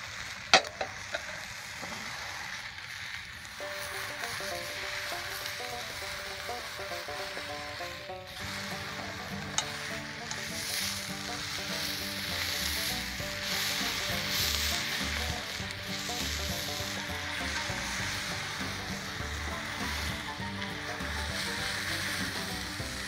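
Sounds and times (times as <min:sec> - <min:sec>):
food sizzling on griddle: 0:00.0 - 0:23.0
background music: 0:03.6 - 0:23.0.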